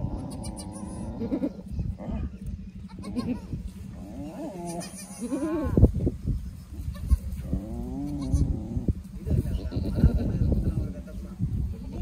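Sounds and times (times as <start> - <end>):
goat bleating: 0.0 - 5.9, 6.7 - 11.1
steady low hum: 0.0 - 12.0.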